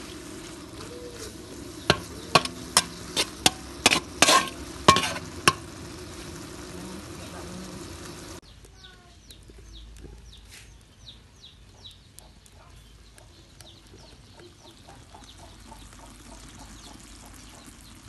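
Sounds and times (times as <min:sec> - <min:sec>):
chicks chirping: 0:00.0 - 0:06.2, 0:06.9 - 0:18.0
chickens clucking: 0:00.0 - 0:08.4, 0:11.7 - 0:17.8
wok frying sizzle: 0:00.0 - 0:18.0.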